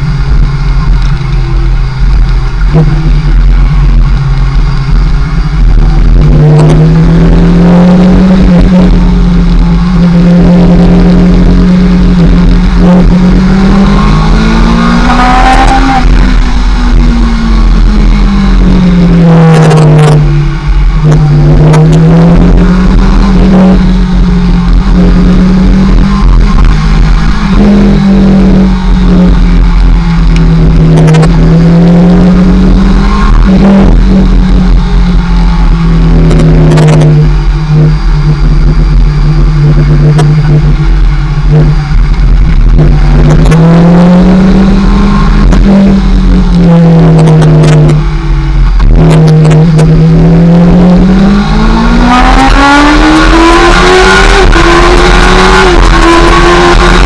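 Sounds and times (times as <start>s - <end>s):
motorcycle engine revving: 0.0s - 57.0s
wind rumble on microphone: 0.0s - 57.0s.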